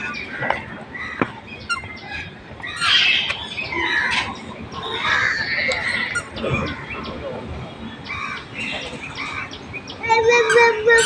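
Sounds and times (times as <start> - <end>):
birds squawking: 0.0 - 11.0.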